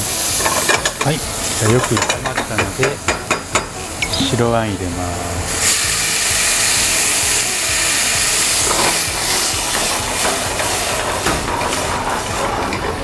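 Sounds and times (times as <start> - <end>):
wine hissing and sizzling in pan: 0.0 - 13.0.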